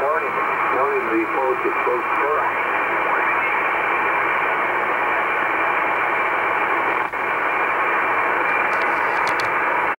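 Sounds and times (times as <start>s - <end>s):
shortwave radio static hiss: 0.0s - 10.0s.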